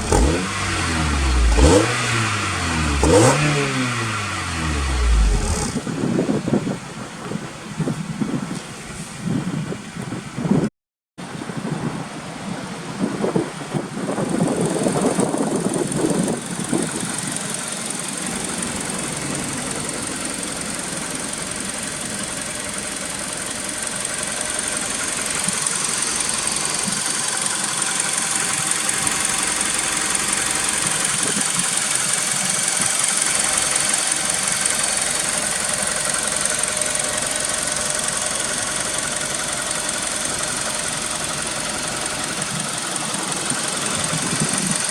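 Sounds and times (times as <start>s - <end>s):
car engine idling: 0.0s - 9.0s, 13.9s - 44.9s.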